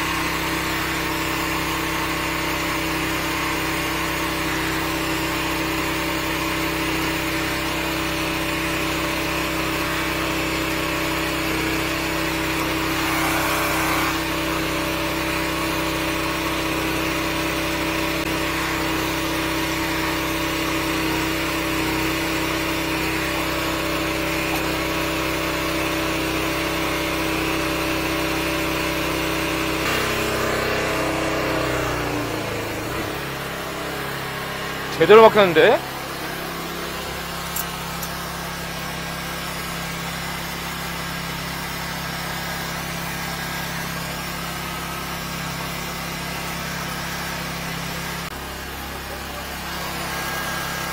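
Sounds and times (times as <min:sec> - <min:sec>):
drain jetter engine running: 0:00.0 - 0:50.9.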